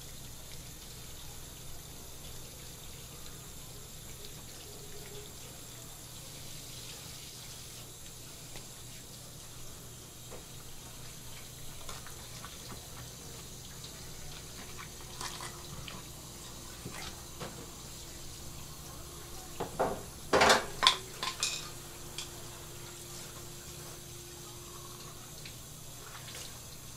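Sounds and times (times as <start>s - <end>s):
faucet sprayer water splashing: 0.0s - 26.9s.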